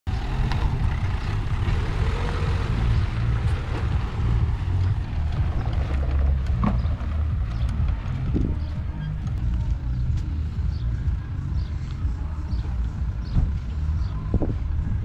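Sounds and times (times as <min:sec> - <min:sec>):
vehicle rumble: 0:00.0 - 0:15.0
wind on microphone: 0:00.2 - 0:11.8, 0:12.5 - 0:15.0.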